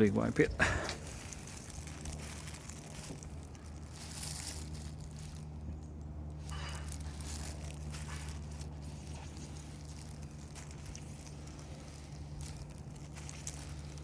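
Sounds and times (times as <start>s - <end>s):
low hum: 0.0s - 14.0s
cloth rubbing plastic lens: 1.0s - 14.0s.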